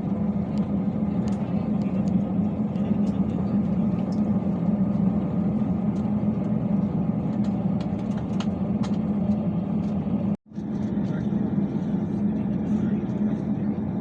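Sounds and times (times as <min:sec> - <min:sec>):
airplane cabin hum and rumble: 0:00.0 - 0:14.0.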